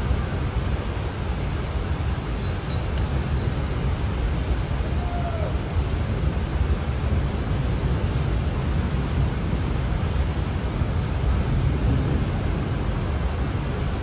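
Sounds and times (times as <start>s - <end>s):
floodwater rushing: 0.0s - 14.0s
wind on microphone: 0.0s - 14.0s.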